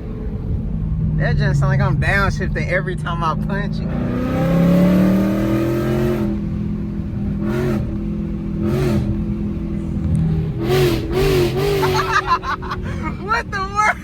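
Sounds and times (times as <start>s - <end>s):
car engine revving loudly: 1.4s - 13.8s.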